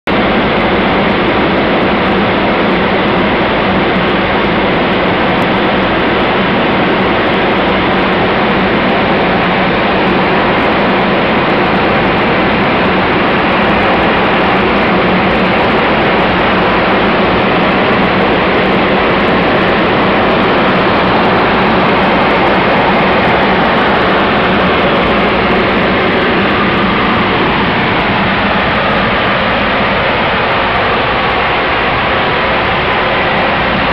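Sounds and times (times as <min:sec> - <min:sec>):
aircraft engines droning in flight: 0:00.0 - 0:33.9.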